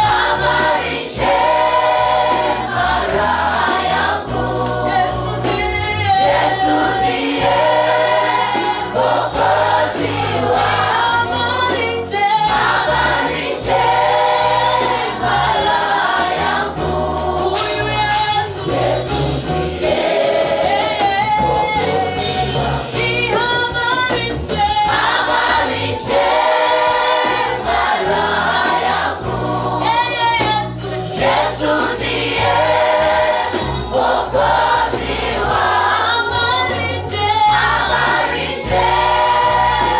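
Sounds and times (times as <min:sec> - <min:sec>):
bass line: 0:00.0 - 0:39.9
choir singing gospel hymn: 0:00.0 - 0:39.9.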